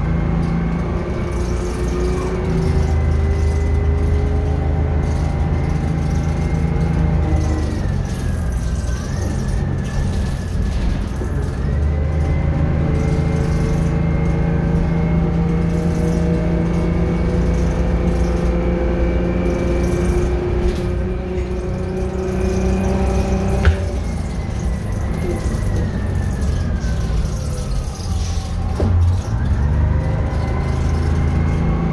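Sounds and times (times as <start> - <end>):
diesel bus engine running: 0.0 - 31.9
high engine whine: 0.0 - 31.9.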